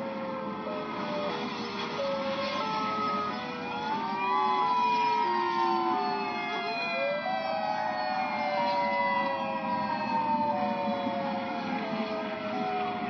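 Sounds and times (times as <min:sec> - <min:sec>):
steady background noise: 0:00.0 - 0:13.0
warning sirens: 0:00.0 - 0:13.0.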